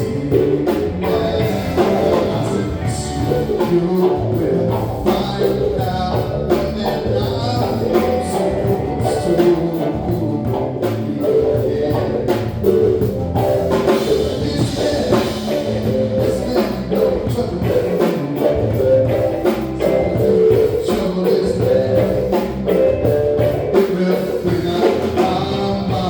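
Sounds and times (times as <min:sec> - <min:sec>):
bass: 0:00.0 - 0:26.0
drum kit: 0:00.0 - 0:26.0
electric guitar: 0:00.0 - 0:26.0.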